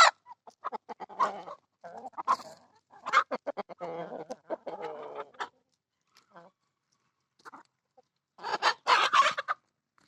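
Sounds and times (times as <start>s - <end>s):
chickens clucking: 0.0s - 9.7s.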